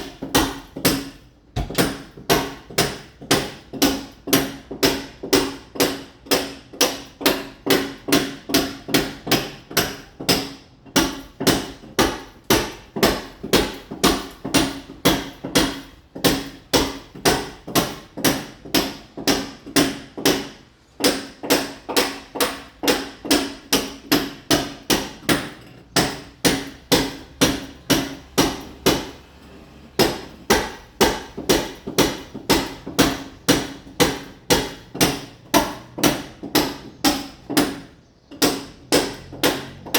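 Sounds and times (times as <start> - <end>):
hammer chipping a wall: 0.0 - 39.9.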